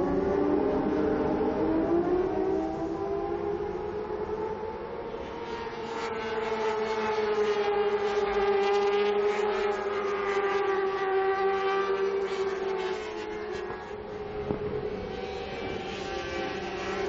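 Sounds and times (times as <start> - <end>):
racing motorcycle engines wailing: 0.0 - 17.0.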